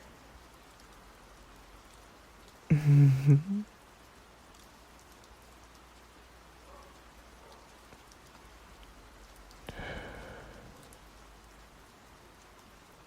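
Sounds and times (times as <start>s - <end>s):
light steady rain: 0.0s - 13.0s
raindrop ticks: 0.0s - 13.0s.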